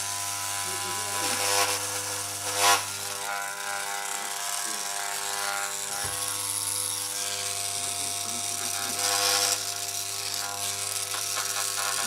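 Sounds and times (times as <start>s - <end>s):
hair clippers buzzing: 0.0s - 12.0s.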